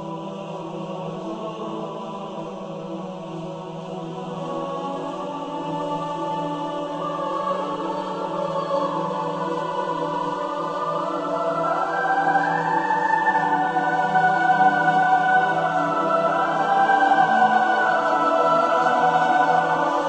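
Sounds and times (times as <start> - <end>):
choir holding long notes: 0.0 - 20.0.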